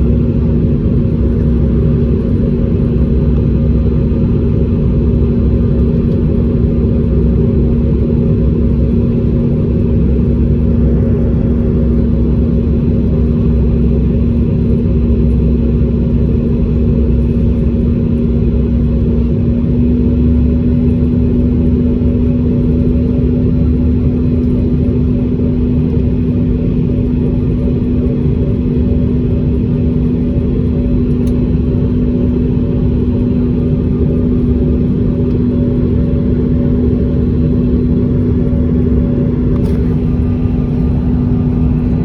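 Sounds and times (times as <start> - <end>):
constant hum: 0.0 - 42.0
jet engine drone: 0.0 - 42.0.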